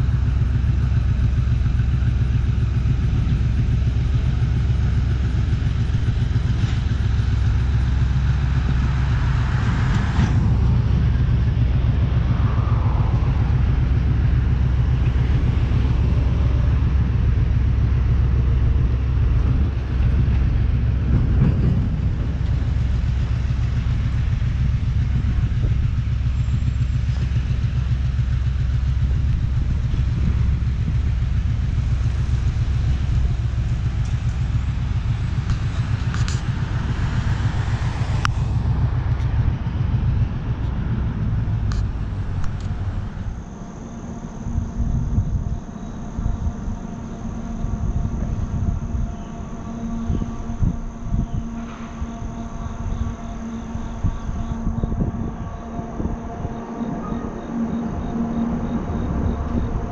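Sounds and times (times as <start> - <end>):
distant locomotive engine drone: 0.0 - 59.9
road vehicle passing: 0.0 - 59.9.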